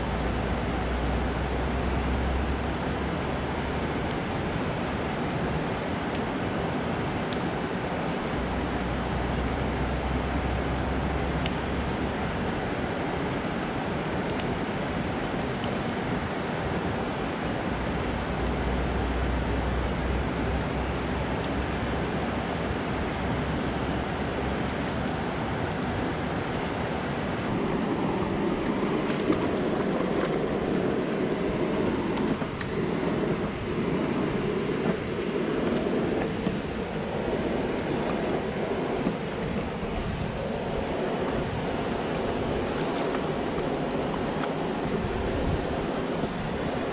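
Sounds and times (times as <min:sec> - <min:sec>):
water rushing over dam spillway: 0:00.0 - 0:46.9.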